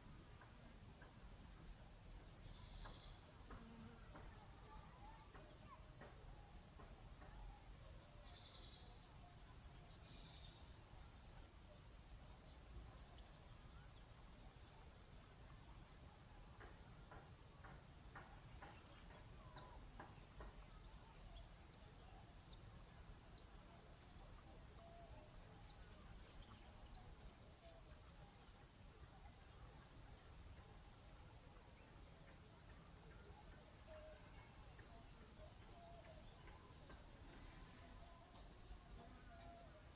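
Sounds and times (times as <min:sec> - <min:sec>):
insect chorus trilling: 0:00.6 - 0:39.9.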